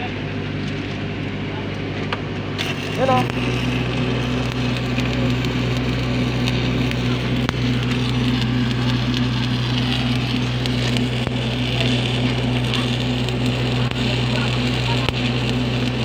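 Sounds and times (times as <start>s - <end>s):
steady low hum: 0.0s - 16.0s
welding arc crackling: 0.0s - 16.0s.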